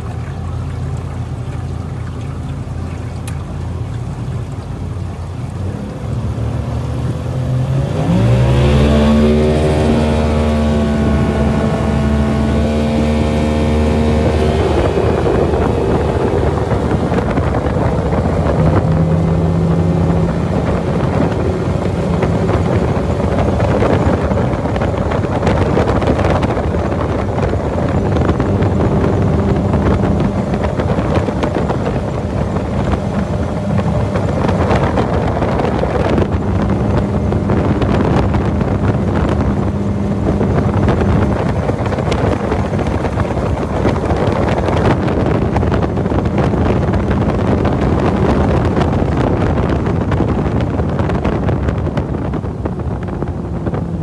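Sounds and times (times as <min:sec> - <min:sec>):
outboard motor accelerating: 0:00.0 - 0:54.0
water rushing: 0:00.0 - 0:54.0
wind rushing: 0:03.6 - 0:54.0.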